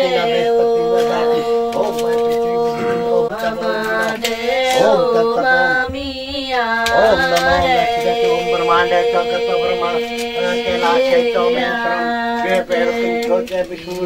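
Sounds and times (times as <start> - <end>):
voices chanting: 0.0 - 14.0.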